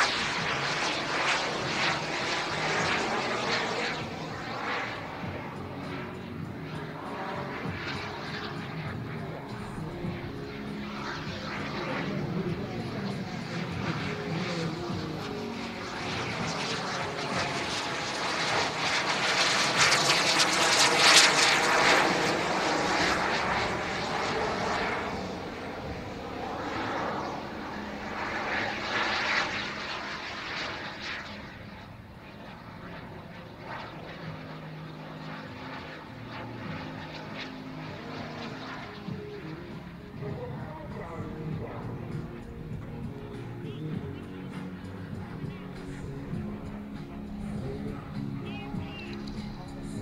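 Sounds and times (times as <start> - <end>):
model jet turbines flying past: 0.0 - 50.0.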